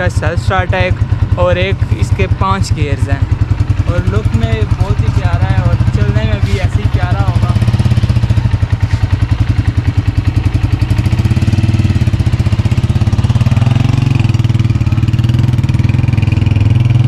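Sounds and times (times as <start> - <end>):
motorcycle engine idling and pulling away: 0.0 - 17.0.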